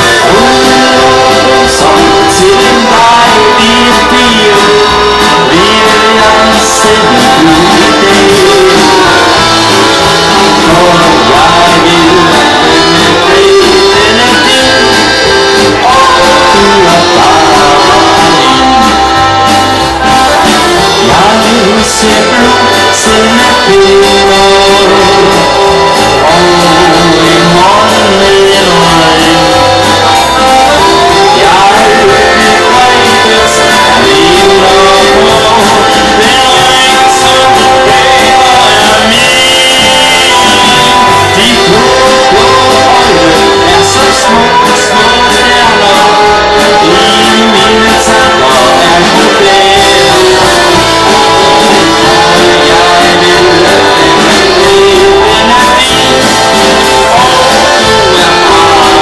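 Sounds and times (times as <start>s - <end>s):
accordions playing: 0.0s - 59.0s
drums: 0.0s - 59.0s
guitar: 0.0s - 59.0s.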